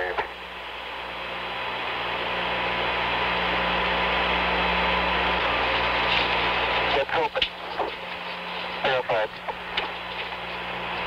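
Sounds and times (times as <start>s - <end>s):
low steady hum: 0.0s - 11.0s
radio static hiss: 0.0s - 11.0s.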